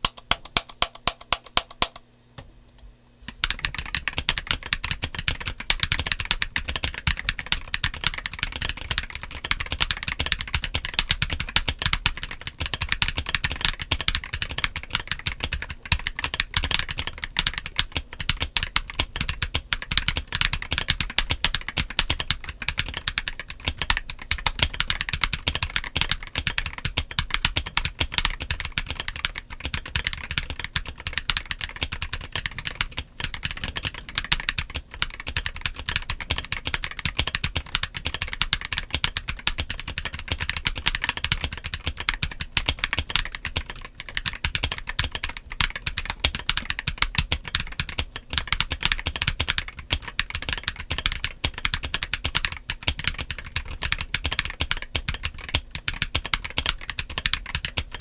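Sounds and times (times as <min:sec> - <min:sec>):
mechanical keyboard typing: 0:00.0 - 0:02.0, 0:03.3 - 0:58.0.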